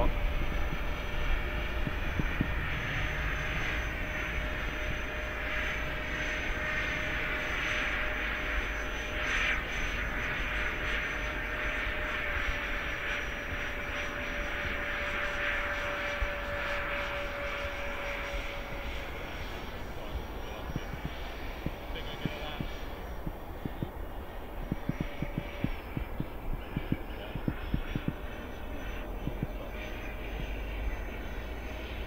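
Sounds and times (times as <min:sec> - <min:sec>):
wind rumble on microphone: 0:00.0 - 0:08.7, 0:09.6 - 0:31.1
electric ducted fans whining: 0:00.0 - 0:32.0.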